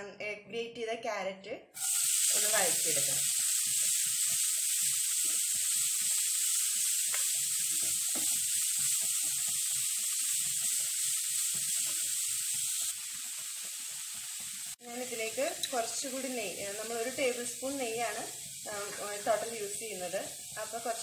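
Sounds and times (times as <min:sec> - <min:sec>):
carrot sizzling in hot fat: 0:01.8 - 0:21.0.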